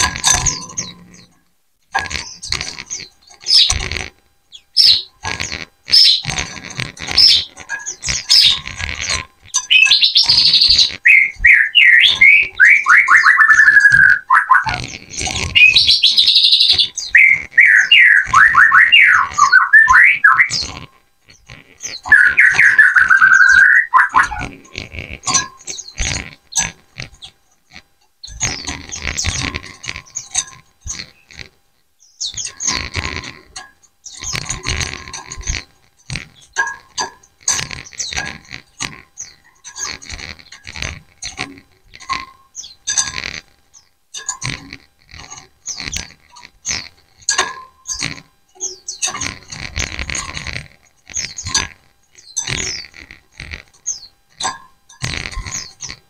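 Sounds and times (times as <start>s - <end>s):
flock of birds chattering: 0.0s - 56.0s.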